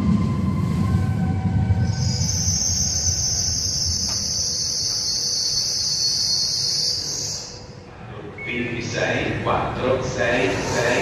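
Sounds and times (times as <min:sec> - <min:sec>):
train high-pitched squeal: 0:00.0 - 0:09.0, 0:10.2 - 0:11.0
train low rumble: 0:00.0 - 0:11.0.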